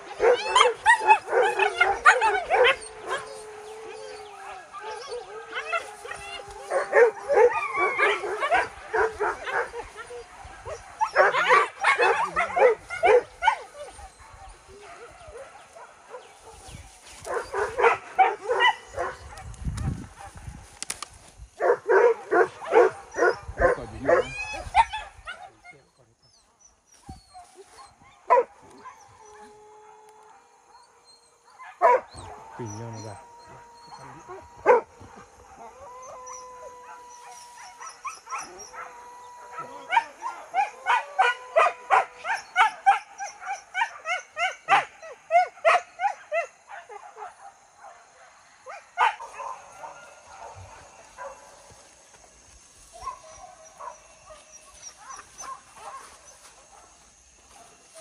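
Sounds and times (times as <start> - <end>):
dogs barking and yelping: 0.0 - 20.7, 21.5 - 58.0.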